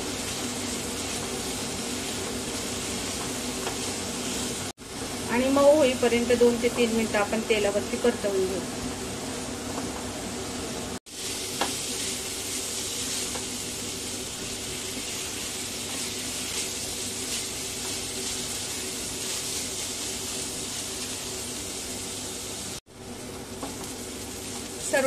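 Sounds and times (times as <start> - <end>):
vegetables sizzling in hot oil: 0.0 - 8.6, 11.0 - 25.0.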